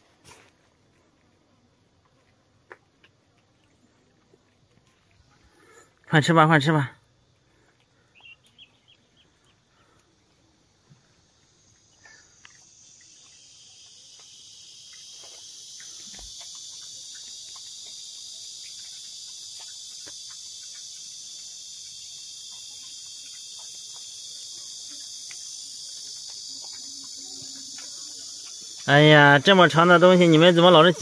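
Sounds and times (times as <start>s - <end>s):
high-pitched insect chorus: 3.8s - 31.0s.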